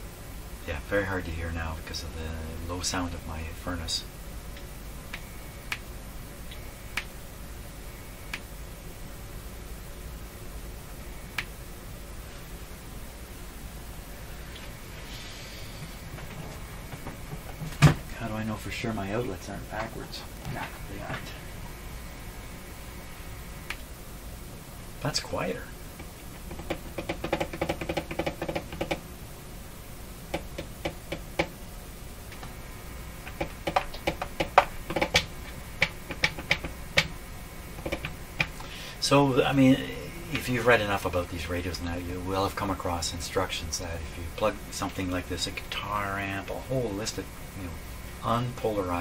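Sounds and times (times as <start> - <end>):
furnace running: 0.0 - 49.0
radio receiver hum and hiss: 0.0 - 49.0.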